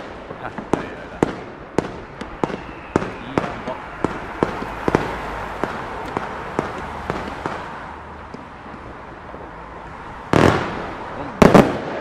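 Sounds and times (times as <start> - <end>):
firework bangs: 0.0 - 12.0
firework crackle: 0.0 - 12.0.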